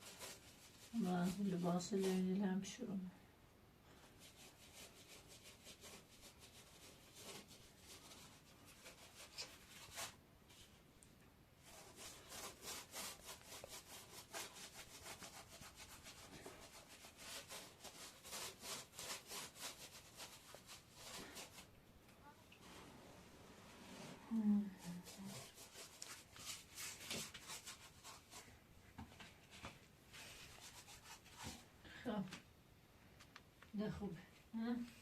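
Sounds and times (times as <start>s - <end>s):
faint scrubbing strokes: 0.0s - 2.8s, 3.8s - 11.0s, 11.6s - 21.8s, 22.4s - 31.8s.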